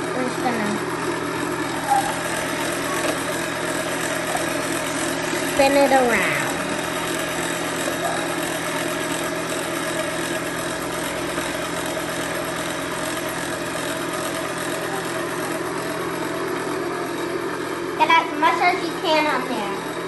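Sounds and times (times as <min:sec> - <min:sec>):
small electric motor humming: 0:00.0 - 0:20.0.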